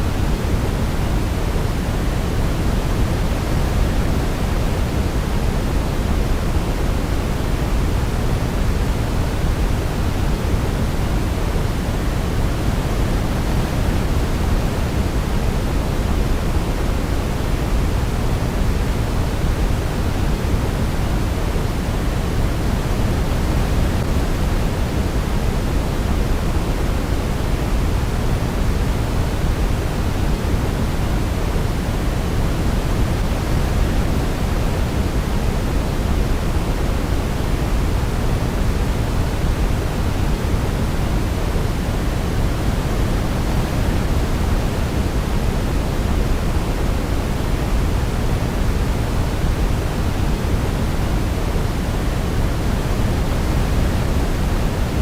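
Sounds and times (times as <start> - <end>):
steady white noise: 0.0 - 55.0.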